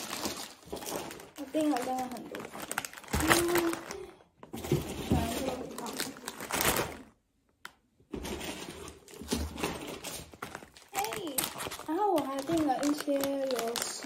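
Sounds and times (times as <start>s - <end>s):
plastic packets crinkling: 0.0s - 7.3s, 8.2s - 14.0s.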